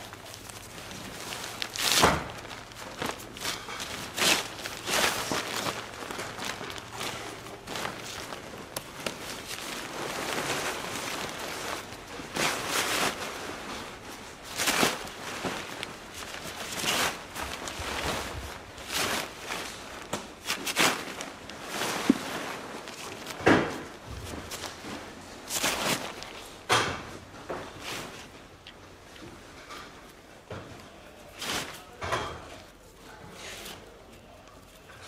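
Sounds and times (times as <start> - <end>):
tent fabric rustling: 0.0 - 29.6.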